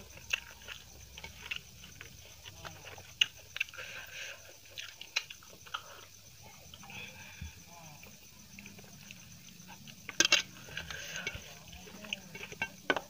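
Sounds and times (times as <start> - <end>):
chewing rice with wet smacks: 0.0 - 7.2, 8.0 - 13.0.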